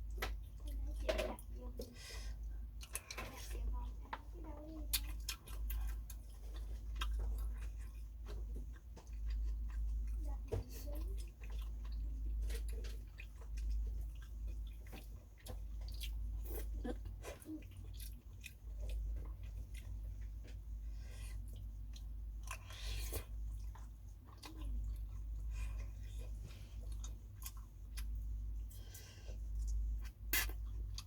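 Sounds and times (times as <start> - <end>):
person chewing with wet clicks: 0.0 - 31.0
steady low hum: 0.0 - 31.0.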